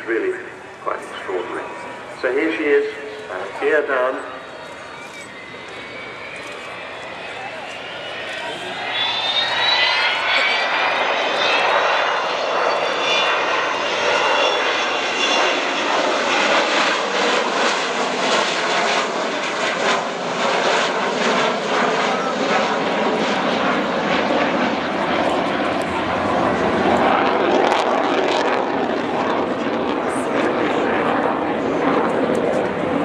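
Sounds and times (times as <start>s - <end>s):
jet aircraft rumble: 0.0s - 33.0s
jet engine whine: 0.0s - 33.0s.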